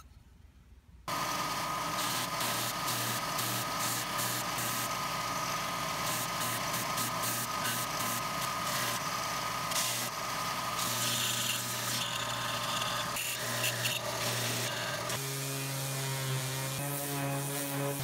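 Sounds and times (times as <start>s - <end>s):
belt sander motor hum and whine: 1.1s - 18.0s
wood hissing on sanding belt: 1.1s - 18.0s.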